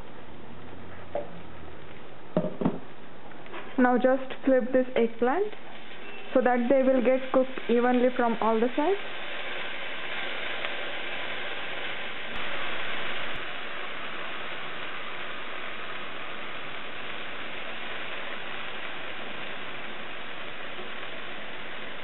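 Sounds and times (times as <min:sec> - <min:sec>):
eggplant sizzling in oil: 0:03.9 - 0:22.0.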